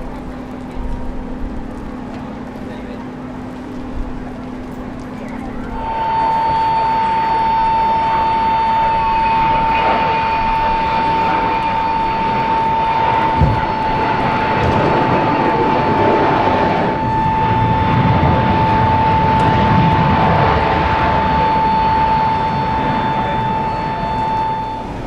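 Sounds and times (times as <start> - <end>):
aircraft engine whine and roar: 0.0 - 25.0.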